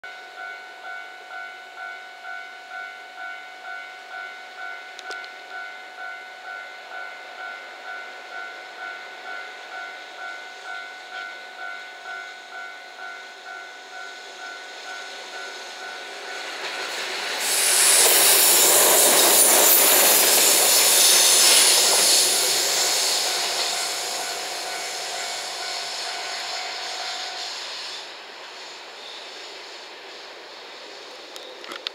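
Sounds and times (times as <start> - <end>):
level-crossing alarm ringing: 0.1 - 27.6.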